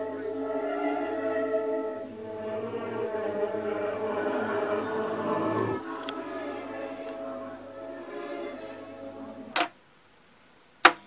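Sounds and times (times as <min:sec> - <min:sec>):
choral music from tape: 0:00.0 - 0:09.7.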